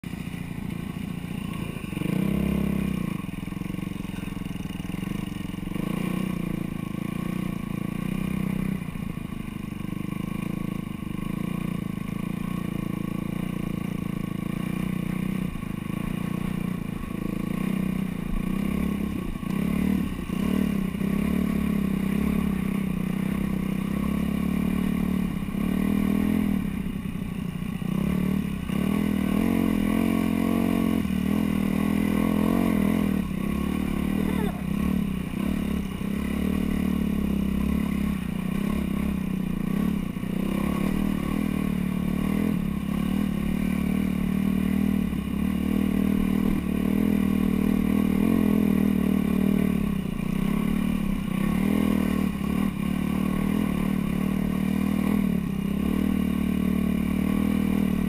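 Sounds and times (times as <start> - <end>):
dirt bike engine revving: 1.2 - 8.8, 10.3 - 26.9, 27.6 - 58.0.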